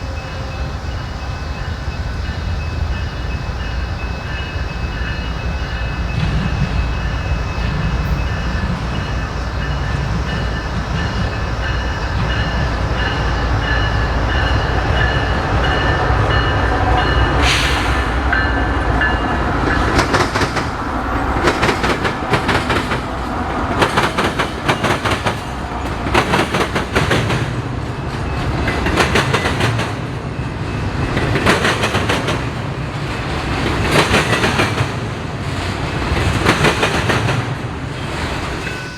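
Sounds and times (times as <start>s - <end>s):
train rumbling past: 0.0s - 38.9s
train wheels clattering on rail joints: 4.2s - 38.9s.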